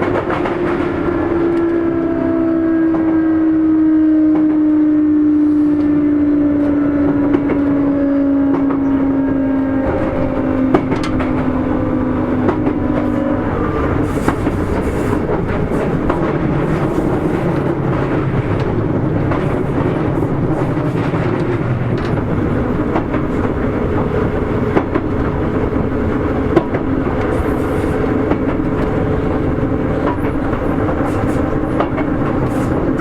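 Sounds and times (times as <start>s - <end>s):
rail joint clicks: 0.0s - 2.2s, 5.4s - 33.0s
train wheels rumbling on rail: 0.0s - 33.0s.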